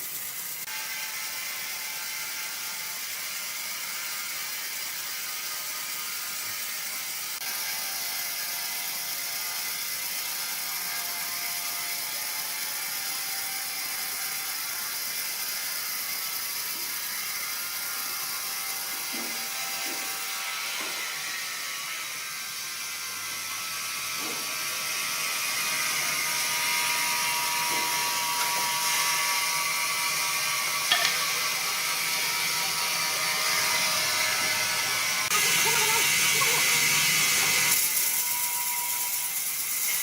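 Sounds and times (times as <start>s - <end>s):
sawmill machinery whirring: 0.0s - 40.0s.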